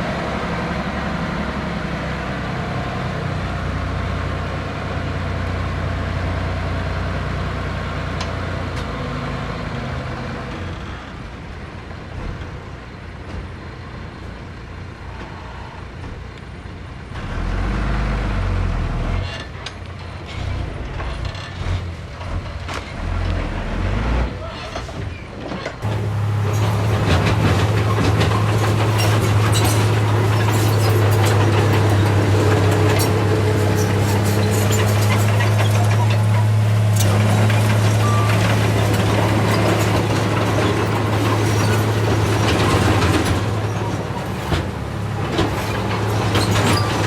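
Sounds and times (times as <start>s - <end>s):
heavy diesel engine under load: 0.0s - 47.0s.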